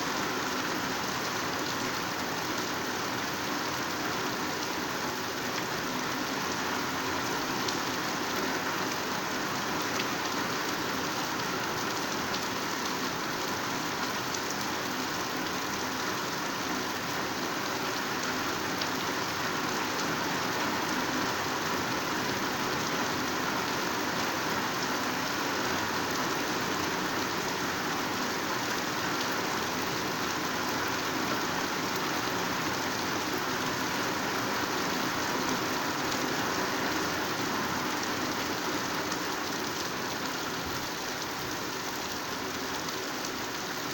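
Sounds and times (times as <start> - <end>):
heavy rain on leaves: 0.0 - 43.9.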